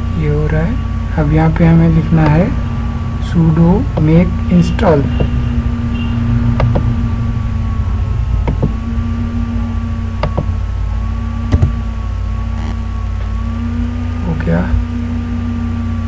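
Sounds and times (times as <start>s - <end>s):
faint wavering whine: 0.0s - 16.0s
low background hum: 0.0s - 16.0s.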